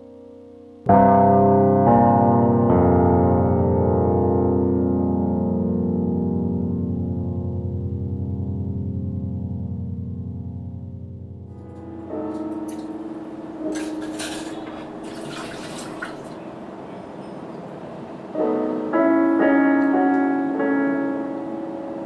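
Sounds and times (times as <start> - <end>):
ambient keyboard music: 0.0 - 22.0.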